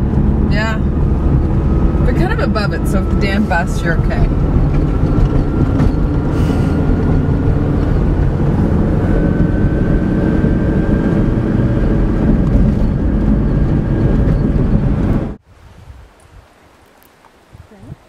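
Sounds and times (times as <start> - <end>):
car engine and tyre rumble: 0.0 - 15.4.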